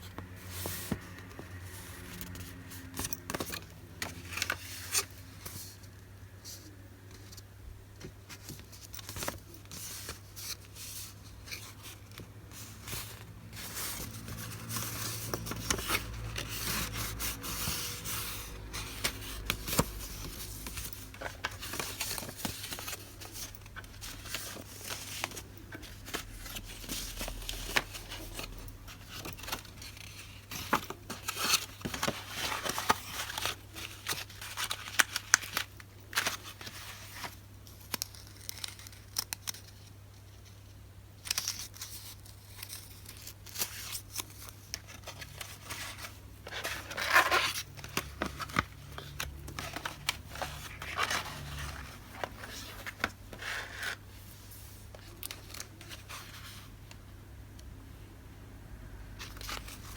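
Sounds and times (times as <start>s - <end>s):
paper and plastic rustling: 0.0s - 7.4s, 8.0s - 40.6s, 41.2s - 57.0s, 59.2s - 59.9s.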